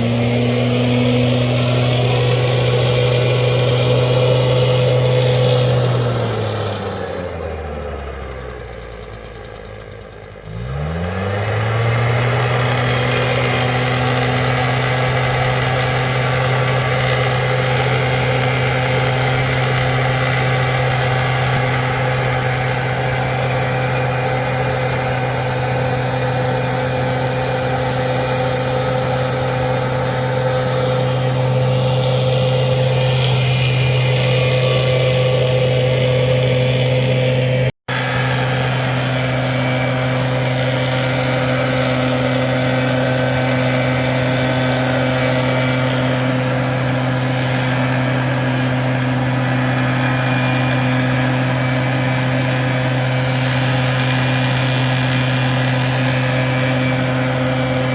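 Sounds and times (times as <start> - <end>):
engine revving up: 0.0 - 57.9.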